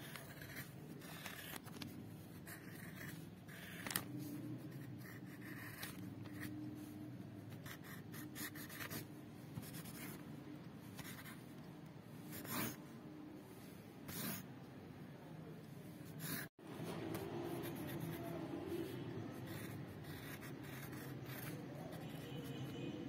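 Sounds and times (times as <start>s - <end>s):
marker scratching on paper: 0.0s - 10.2s, 10.8s - 11.5s, 12.3s - 12.8s, 14.1s - 14.5s, 16.0s - 22.8s.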